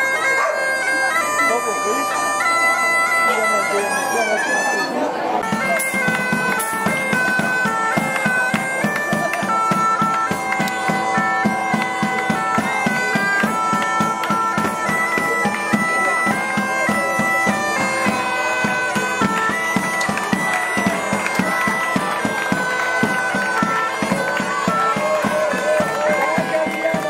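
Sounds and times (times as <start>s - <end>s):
bagpipe melody over drone: 0.0s - 27.0s.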